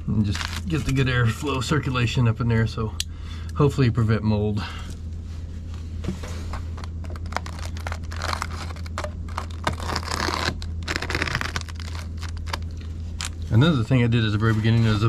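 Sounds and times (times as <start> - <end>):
insulation crinkling and rustling: 0.0 - 2.8, 4.8 - 15.0
steady low hum: 0.0 - 15.0.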